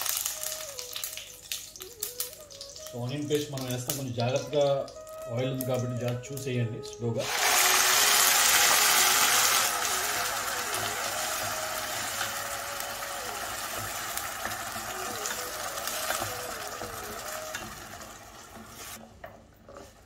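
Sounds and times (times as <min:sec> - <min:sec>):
paste sizzling in hot oil: 0:00.0 - 0:06.0, 0:07.2 - 0:19.0.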